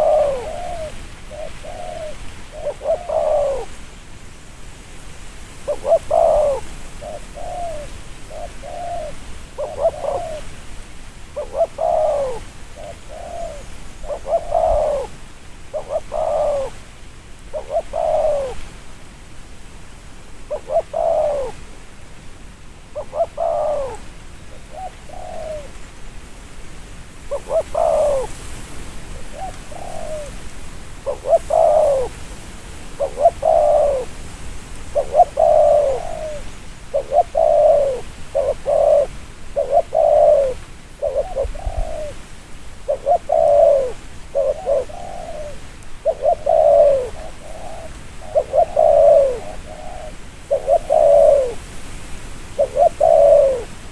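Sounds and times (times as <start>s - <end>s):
dove cooing: 0.0s - 3.9s, 5.1s - 18.8s, 20.4s - 21.9s, 22.8s - 26.0s, 27.0s - 53.9s.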